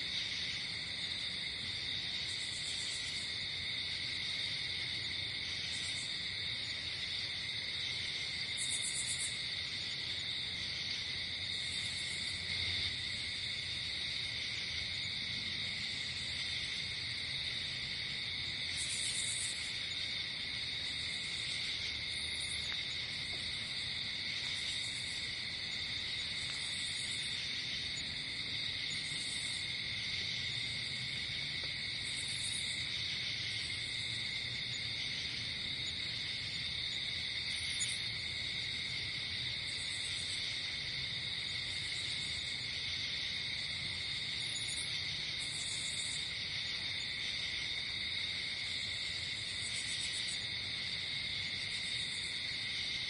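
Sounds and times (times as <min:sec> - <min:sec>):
crickets trilling: 0:00.0 - 0:53.0
high insect chirps: 0:00.1 - 0:53.0.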